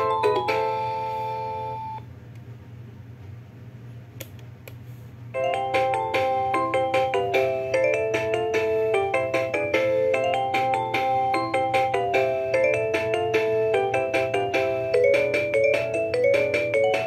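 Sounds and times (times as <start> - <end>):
phone ringtone melodies: 0.0 - 2.0, 5.4 - 17.0.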